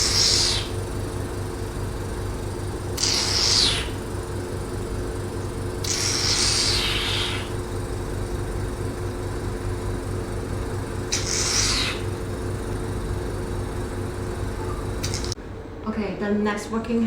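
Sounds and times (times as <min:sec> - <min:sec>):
air hissing: 0:00.0 - 0:01.0, 0:02.6 - 0:15.4
vacuum pump humming: 0:00.0 - 0:15.8.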